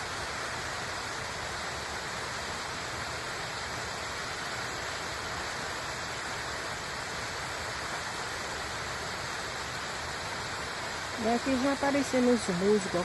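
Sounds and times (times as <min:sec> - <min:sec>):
small waterfall splashing: 0:00.0 - 0:13.0.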